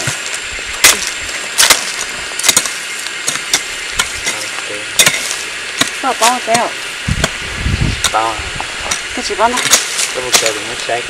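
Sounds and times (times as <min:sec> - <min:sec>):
hoe chopping into stony soil: 0:00.0 - 0:07.4, 0:08.9 - 0:10.6
steady hiss: 0:00.0 - 0:11.0.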